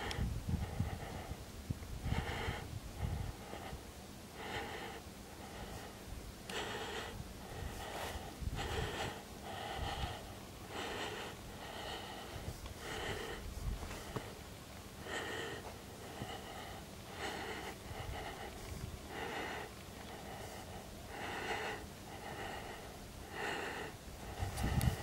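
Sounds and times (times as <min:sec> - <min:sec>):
person breathing hard: 0:00.0 - 0:25.0.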